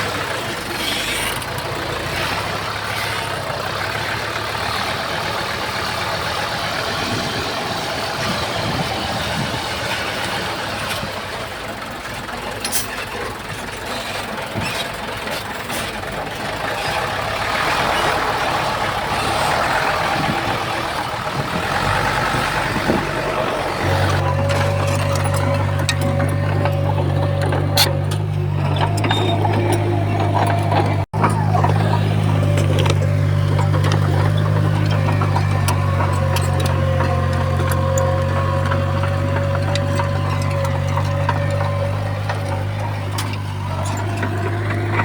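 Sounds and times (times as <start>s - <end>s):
heavy earthmoving machinery running: 0.0s - 45.0s.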